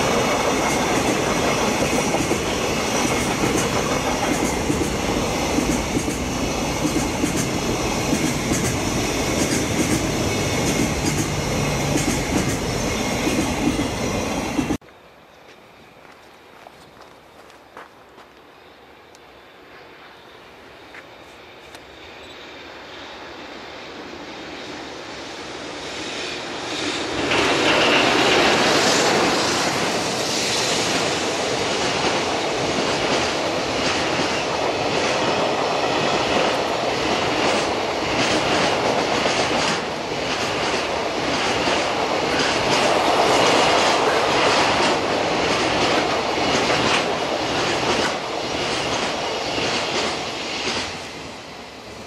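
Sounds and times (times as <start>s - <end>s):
electric locomotive passing: 0.0s - 52.0s.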